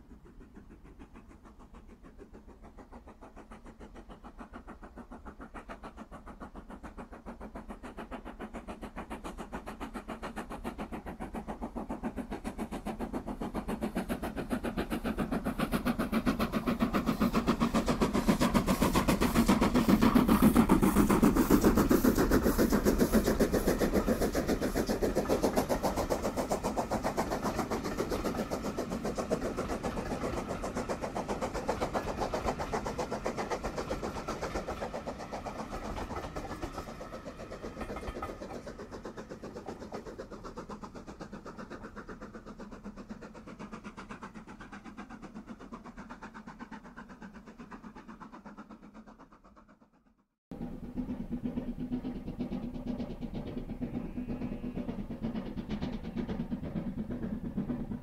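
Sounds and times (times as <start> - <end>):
steam locomotive exhaust beating: 0.0 - 58.0.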